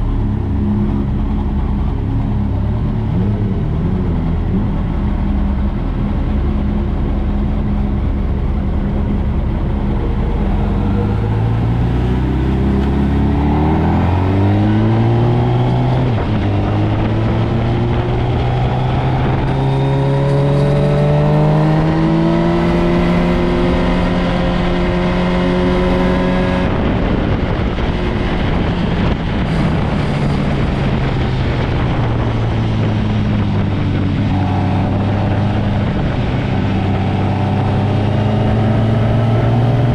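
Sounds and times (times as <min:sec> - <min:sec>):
motorcycle engine accelerating: 0:00.0 - 0:39.9
steady rush of noise: 0:00.0 - 0:39.9.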